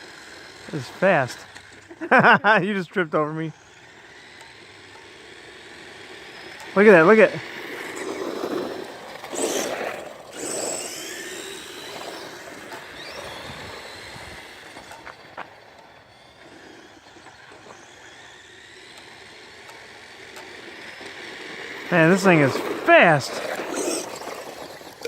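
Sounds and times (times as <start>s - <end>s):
rc car motor whine: 0.0s - 25.0s.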